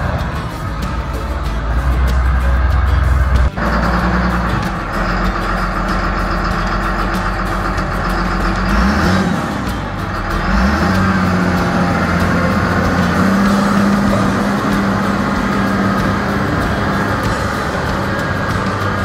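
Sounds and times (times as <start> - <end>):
wheel loader diesel engine: 0.0 - 19.0.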